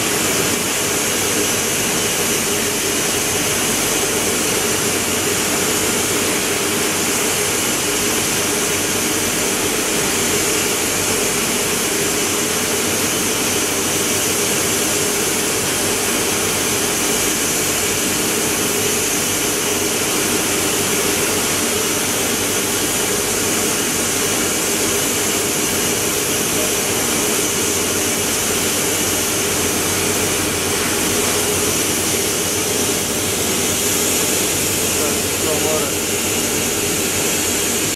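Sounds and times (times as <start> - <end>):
printing press running: 0.0 - 37.9.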